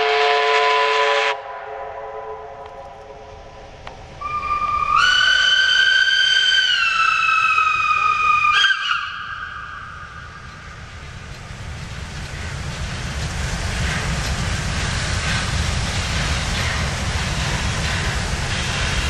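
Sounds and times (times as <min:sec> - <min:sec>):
rumble of train wheels: 0:00.0 - 0:19.0
steam exhaust beats: 0:00.0 - 0:19.0
steam locomotive approaching: 0:00.0 - 0:19.0.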